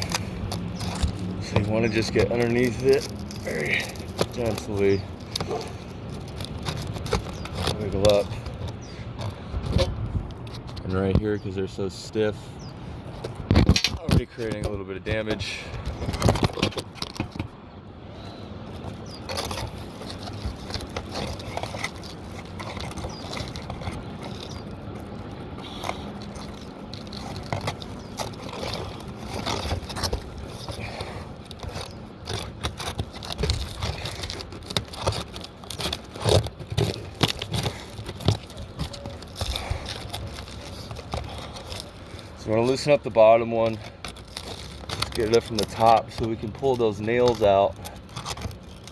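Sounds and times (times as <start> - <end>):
shingles scraping and crackling: 0.0 - 48.9.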